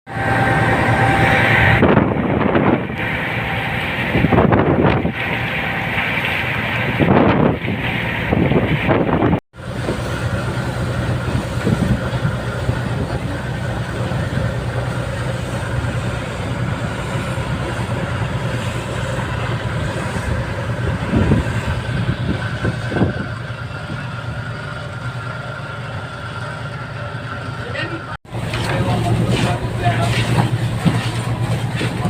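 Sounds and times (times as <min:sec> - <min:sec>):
ferry engine drone: 0:00.1 - 0:32.0.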